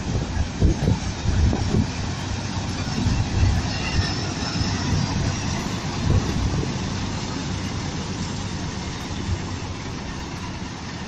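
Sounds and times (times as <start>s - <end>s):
harvesting machine engine rumble: 0.1s - 11.0s.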